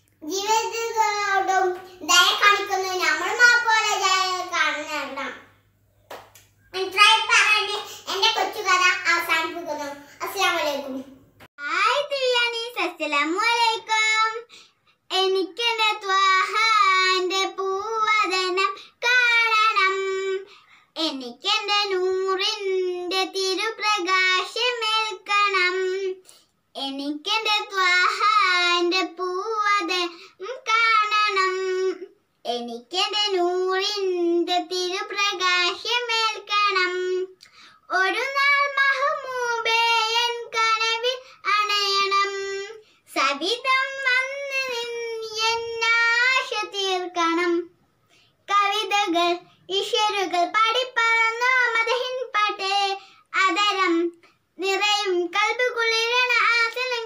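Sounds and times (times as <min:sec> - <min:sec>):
girl singing unaccompanied: 0:00.0 - 0:05.7, 0:06.7 - 0:57.0.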